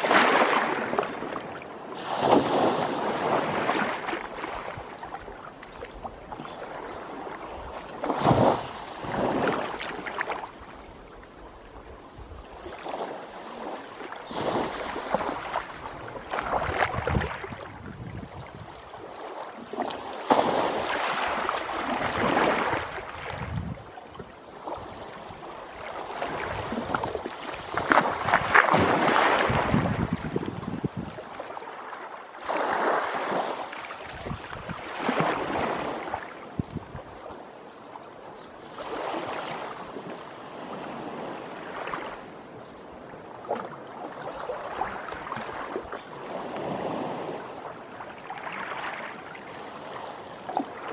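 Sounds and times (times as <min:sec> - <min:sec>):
waves lapping against rocks: 0:00.0 - 0:38.0, 0:38.6 - 0:42.4, 0:43.0 - 0:50.9.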